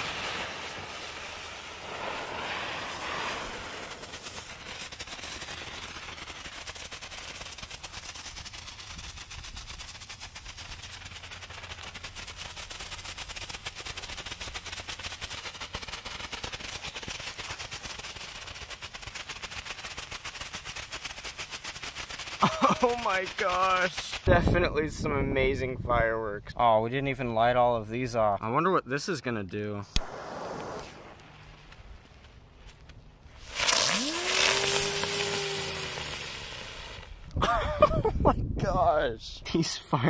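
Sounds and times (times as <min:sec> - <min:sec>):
fireworks hissing flare: 0:00.0 - 0:25.1, 0:29.9 - 0:32.5, 0:33.2 - 0:37.6
fireworks rapid pops and crackles: 0:00.0 - 0:25.9, 0:29.9 - 0:38.3.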